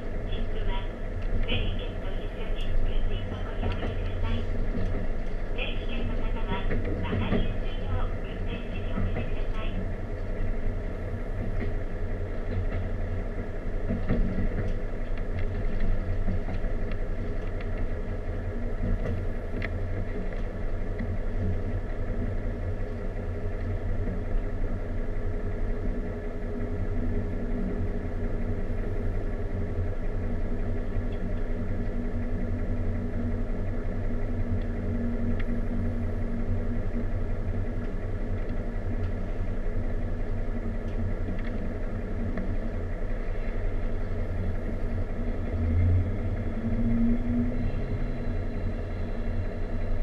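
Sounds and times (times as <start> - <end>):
train rumbling on rails: 0.0 - 50.0.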